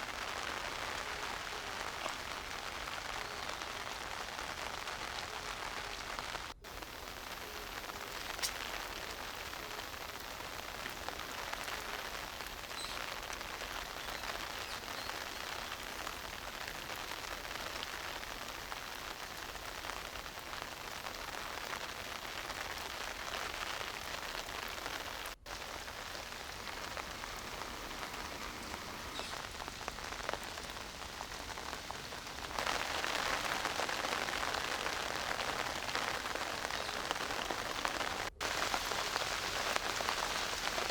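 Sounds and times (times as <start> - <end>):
raindrops ticking: 0.0 - 40.9
steady rain: 0.0 - 40.9.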